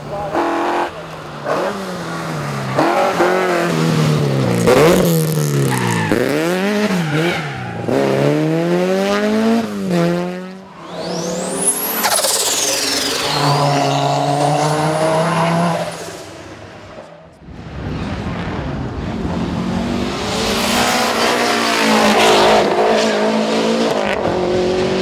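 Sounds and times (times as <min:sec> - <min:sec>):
rally car engine revving hard: 0:00.1 - 0:16.3, 0:19.4 - 0:25.0.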